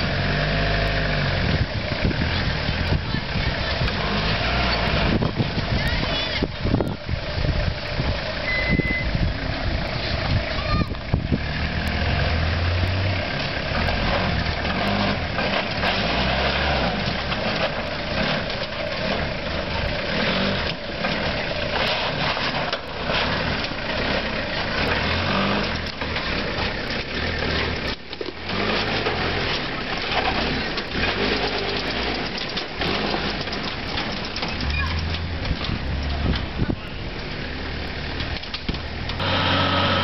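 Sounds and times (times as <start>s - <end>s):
off-road vehicle engine at low revs: 0.0s - 40.0s.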